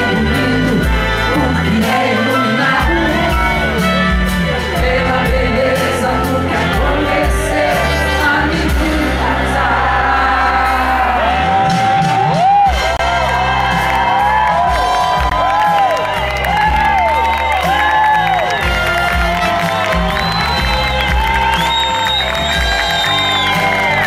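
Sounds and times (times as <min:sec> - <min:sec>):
amplified band playing: 0:00.0 - 0:24.0.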